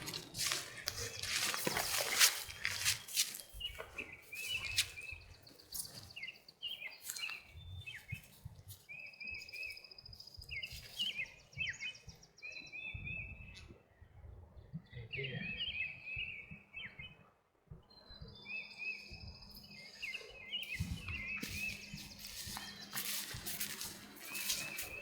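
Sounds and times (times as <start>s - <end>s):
songbirds chirping and singing: 0.0s - 13.9s, 14.5s - 25.0s.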